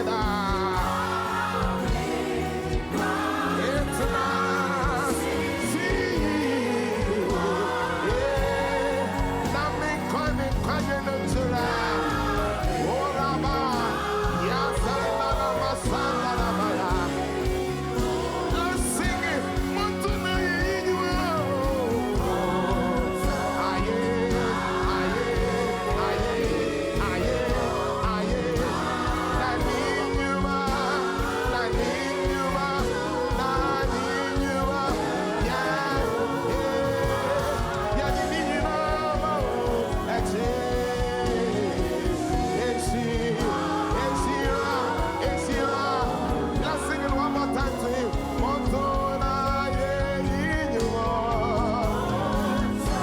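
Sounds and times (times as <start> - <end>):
gospel singing: 0.0 - 53.0
instrumental accompaniment: 0.0 - 53.0.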